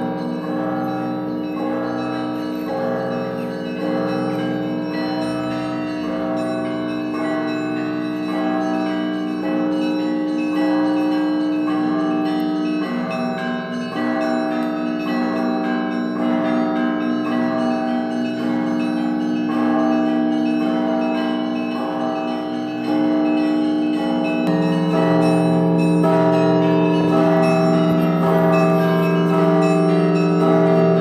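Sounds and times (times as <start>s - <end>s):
large church bells ringing: 0.0s - 31.0s.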